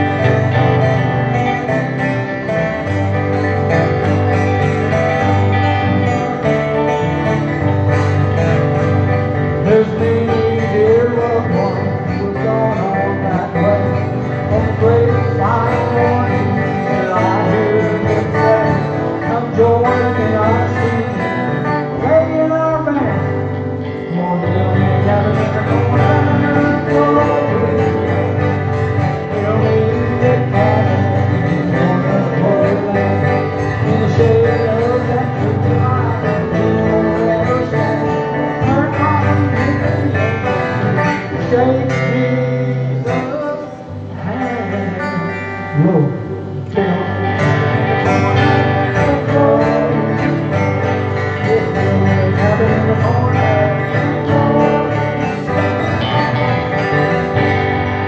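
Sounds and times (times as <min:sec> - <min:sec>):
country gospel band with guitar: 0:00.0 - 0:58.0.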